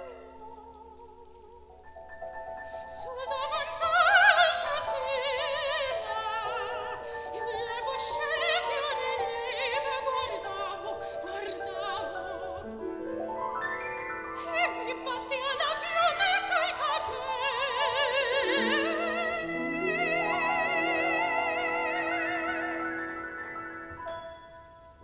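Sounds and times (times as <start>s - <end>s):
piano accompaniment: 0.0s - 25.0s
soprano singing with vibrato: 0.0s - 25.0s.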